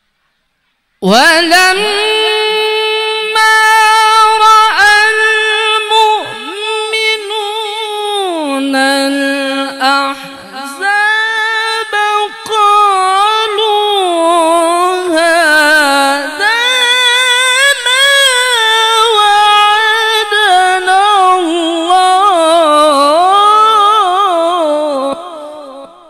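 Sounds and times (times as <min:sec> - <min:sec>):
man reciting melodically: 0:01.0 - 0:26.0.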